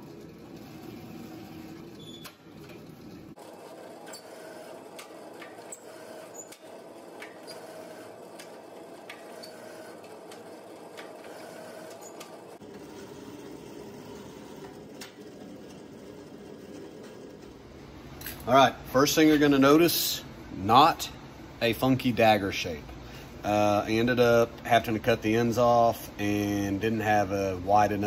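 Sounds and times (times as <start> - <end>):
roller mill humming: 0.0 - 28.0.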